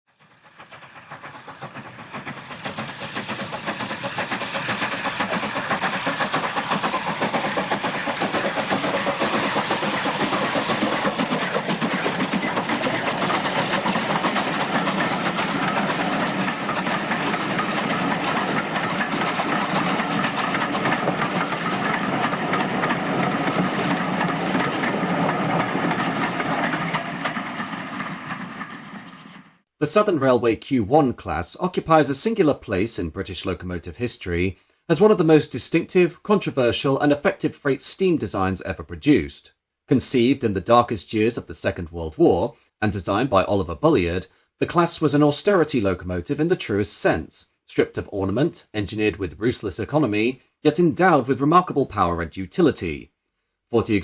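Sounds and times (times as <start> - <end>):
steam train running: 0.1 - 38.9, 39.9 - 52.9.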